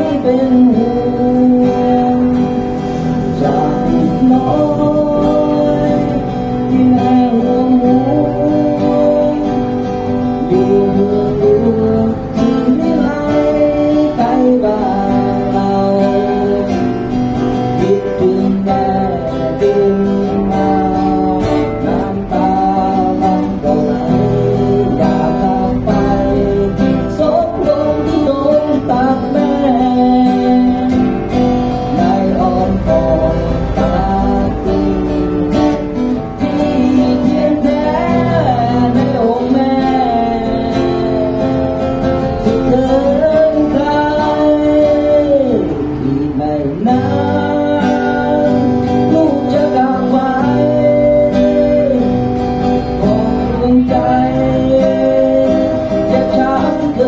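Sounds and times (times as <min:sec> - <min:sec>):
acoustic guitar strumming: 0:00.0 - 0:57.0
man singing slow song: 0:00.0 - 0:57.0.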